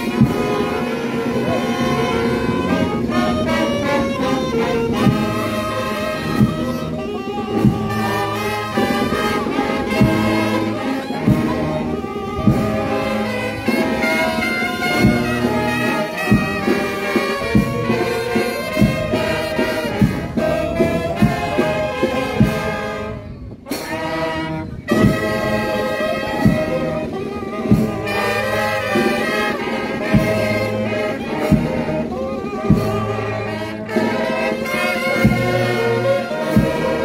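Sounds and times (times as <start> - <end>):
drum strokes: 0.0 - 22.8, 23.6 - 37.0
brass band playing march: 0.0 - 37.0.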